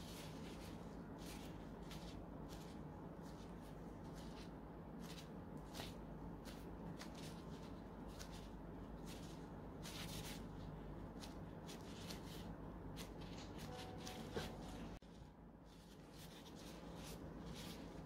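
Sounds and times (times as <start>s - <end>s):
plastic gloves crinkling: 0.0s - 18.0s
steady low hum: 0.0s - 18.0s.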